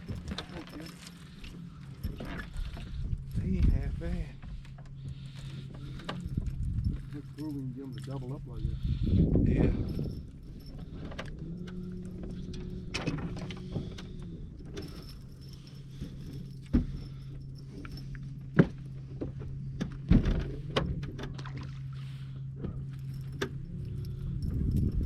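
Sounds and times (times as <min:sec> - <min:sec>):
fishing gear rattling: 0:00.0 - 0:25.0
low motor hum: 0:00.0 - 0:25.0.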